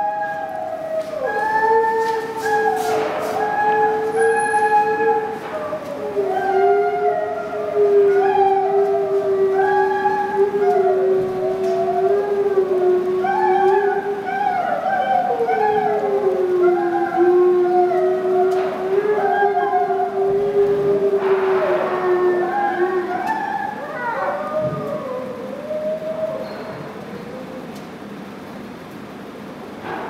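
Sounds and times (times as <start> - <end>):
wolves howling: 0.0 - 28.0.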